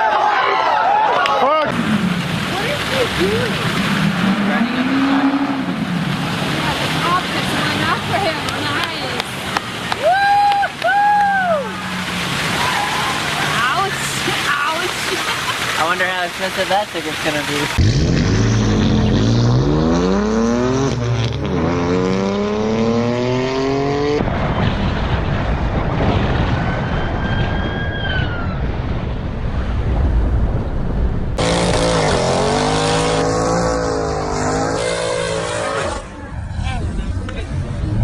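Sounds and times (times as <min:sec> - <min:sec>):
rushing wind and road noise: 0:00.5 - 0:38.0
car engines accelerating hard: 0:01.4 - 0:26.0, 0:31.4 - 0:38.0.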